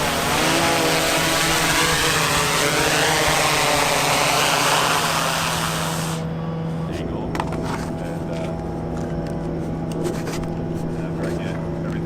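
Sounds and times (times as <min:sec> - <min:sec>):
loud engine noise: 0:00.0 - 0:12.0.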